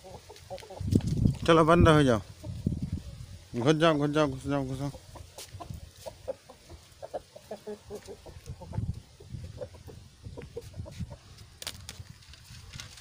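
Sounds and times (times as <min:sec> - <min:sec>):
chickens clucking softly: 0:00.0 - 0:01.3, 0:02.0 - 0:11.5.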